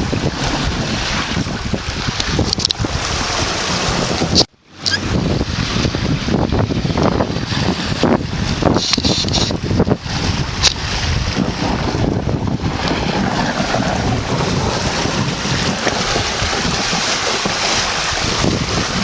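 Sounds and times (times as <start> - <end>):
loud rushing water: 0.0 - 19.0
wind buffeting microphone: 0.0 - 19.0.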